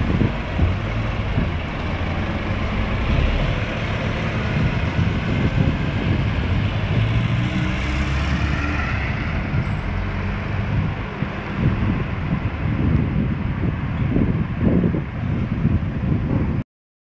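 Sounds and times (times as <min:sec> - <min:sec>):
bus engine driving past: 0:00.0 - 0:16.3.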